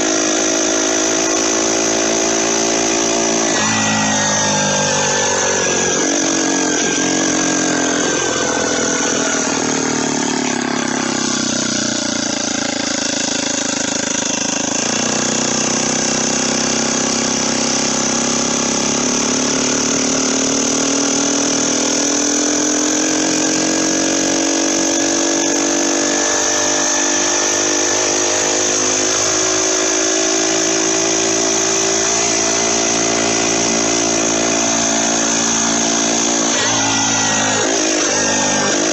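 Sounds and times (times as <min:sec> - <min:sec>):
steady high whine: 0:00.0 - 0:25.6, 0:26.2 - 0:38.9
motorized bicycle engine revving: 0:00.0 - 0:38.9.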